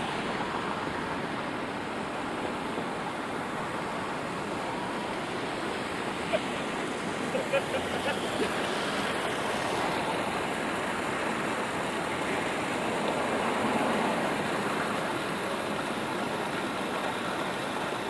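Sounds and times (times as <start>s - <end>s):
rain on a street: 0.0s - 18.0s
traffic on wet pavement: 0.0s - 18.0s.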